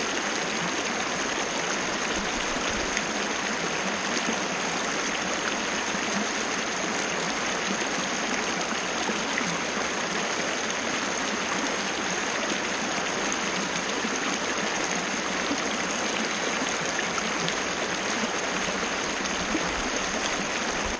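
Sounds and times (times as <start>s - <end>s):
waterfall pouring and splashing: 0.0s - 20.9s.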